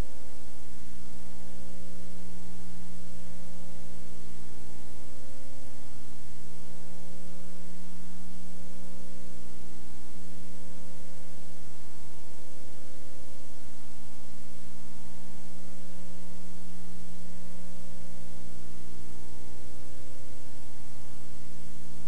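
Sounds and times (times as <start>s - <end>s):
constant hiss: 0.0s - 22.0s
electrical mains hum with tones: 0.0s - 22.0s.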